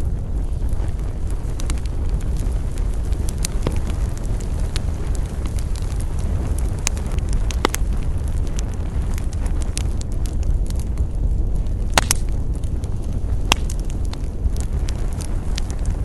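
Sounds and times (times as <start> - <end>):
campfire burning rush: 0.0 - 16.0
fire crackles and pops: 0.0 - 16.0.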